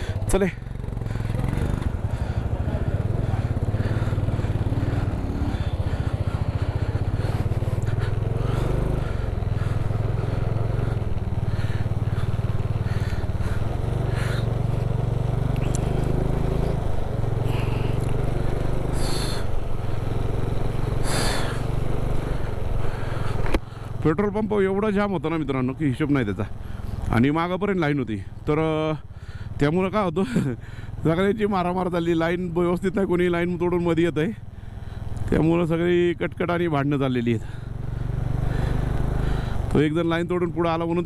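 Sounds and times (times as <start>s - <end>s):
motorcycle engine running: 0.0s - 41.0s
rush of riding noise: 0.0s - 41.0s.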